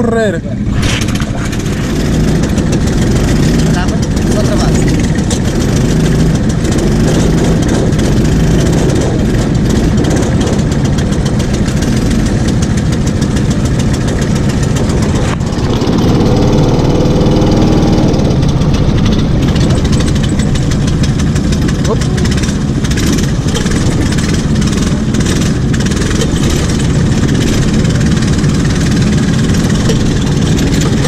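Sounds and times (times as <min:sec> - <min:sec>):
go-kart engines droning: 0:00.0 - 0:31.0.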